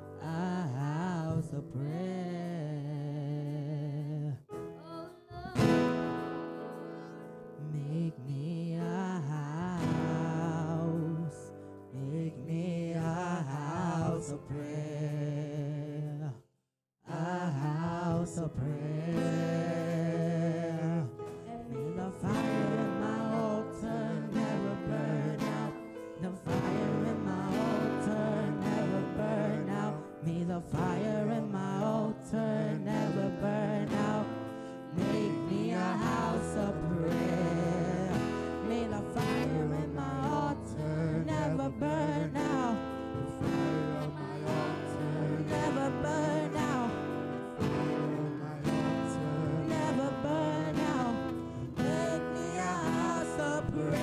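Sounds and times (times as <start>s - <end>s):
person singing: 0.0s - 16.4s, 17.1s - 54.0s
strummed acoustic guitar: 0.0s - 16.4s, 17.1s - 54.0s.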